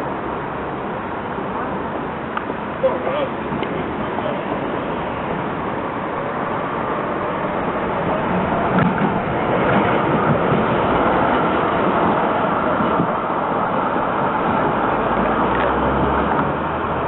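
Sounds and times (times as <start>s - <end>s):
tram rolling on rails: 0.0s - 17.0s.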